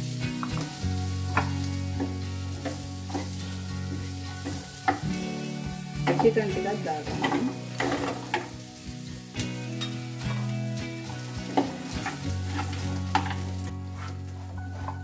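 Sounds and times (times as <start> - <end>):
frying sizzle: 0.0 - 15.0
spatula scraping a pan: 0.5 - 6.4, 7.0 - 8.6, 9.7 - 15.0.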